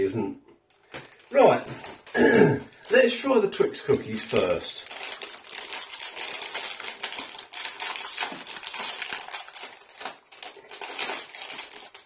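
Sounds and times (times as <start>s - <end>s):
plastic packet crinkling: 0.7s - 12.0s.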